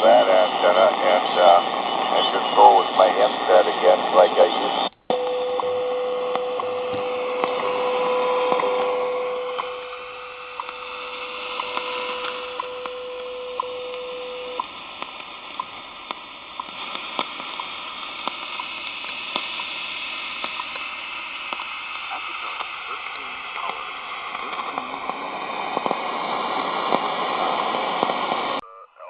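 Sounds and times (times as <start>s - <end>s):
shortwave radio static hiss: 0.0s - 29.0s
steady radio tone: 0.0s - 29.0s
short radio ticks: 0.4s - 5.7s, 6.3s - 7.7s, 8.4s - 26.1s, 26.7s - 28.6s.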